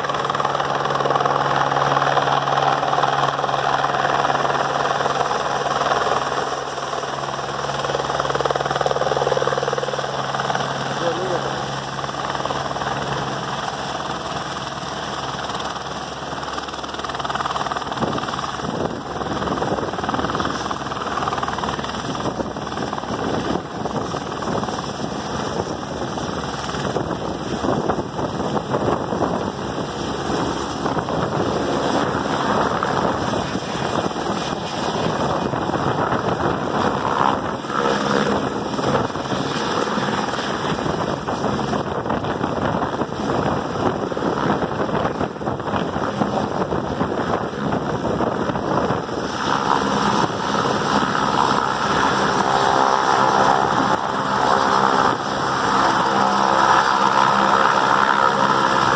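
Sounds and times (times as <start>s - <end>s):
helicopter rotor noise: 0.0s - 58.9s
helicopter turbine whine: 0.0s - 58.9s.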